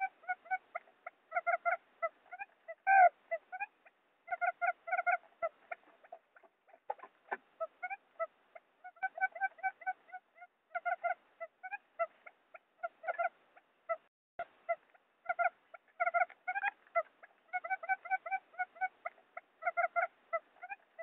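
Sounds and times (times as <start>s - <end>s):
quail call: 0.0s - 21.0s.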